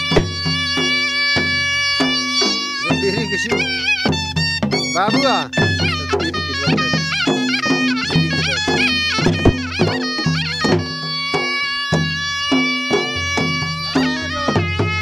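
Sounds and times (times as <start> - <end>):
dhol drum beat: 0.0 - 15.0
reed wind instrument melody: 0.0 - 15.0.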